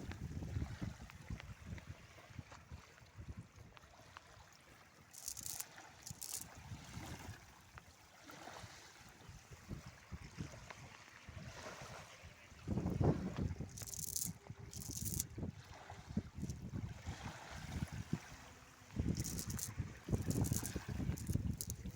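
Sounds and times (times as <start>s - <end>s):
river water trickling: 0.0s - 21.9s.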